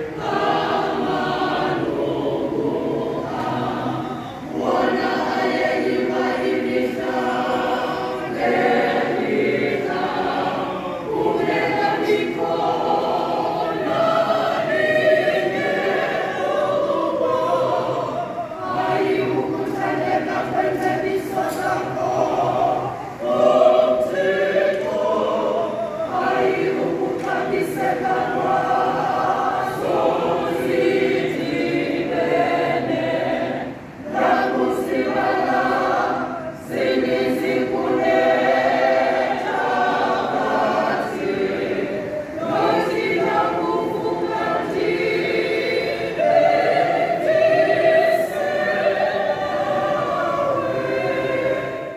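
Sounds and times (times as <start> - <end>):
choir singing a hymn: 0.0 - 51.9.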